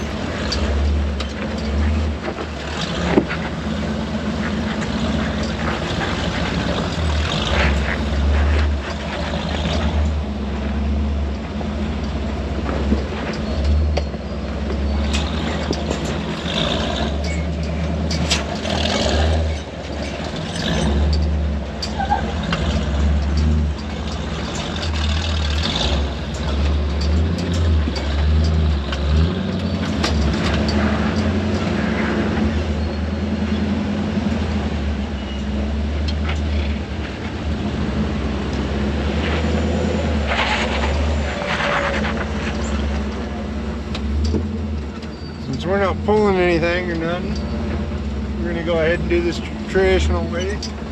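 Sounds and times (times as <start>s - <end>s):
truck engine at low revs: 0.0s - 50.9s
tyres knocking and crunching: 0.0s - 50.9s.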